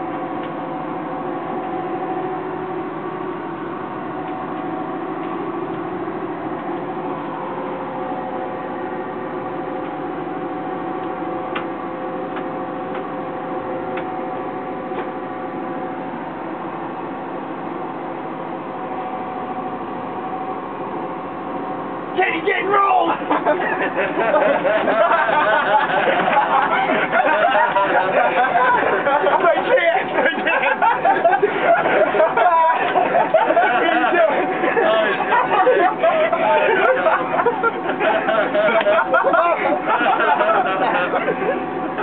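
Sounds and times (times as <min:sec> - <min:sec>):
boat engine drone: 0:00.0 - 0:42.0.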